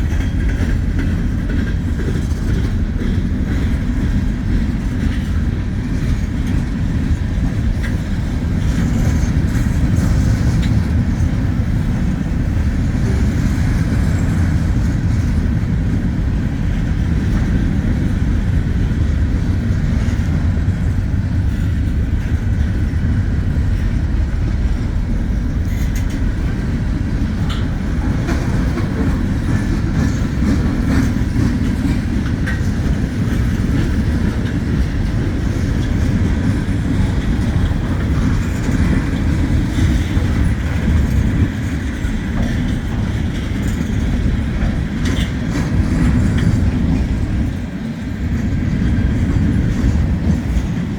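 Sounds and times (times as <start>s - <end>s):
freight train rumbling past: 0.0s - 50.9s
wheels clattering over rail: 0.0s - 50.9s.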